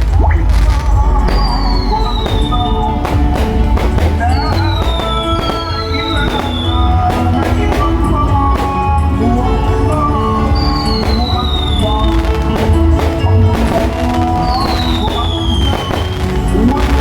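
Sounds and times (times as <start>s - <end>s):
fireworks banging: 0.0s - 17.0s
loud music with sustained notes: 0.0s - 17.0s
fireworks whistling: 1.2s - 17.0s.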